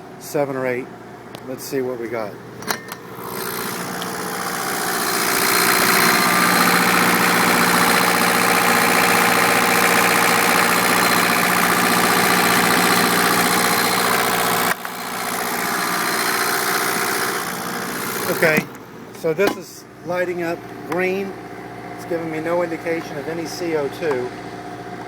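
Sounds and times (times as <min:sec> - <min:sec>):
generator engine running: 0:00.0 - 0:25.0.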